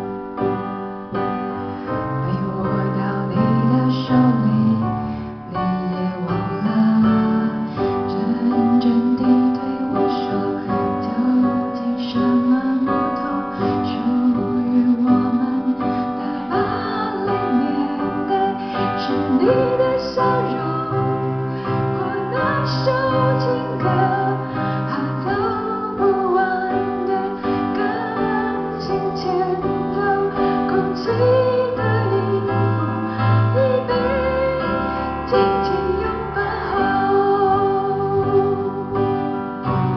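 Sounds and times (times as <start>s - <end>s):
acoustic guitar: 0.0s - 39.9s
piano: 0.0s - 39.9s
woman singing: 2.1s - 39.5s.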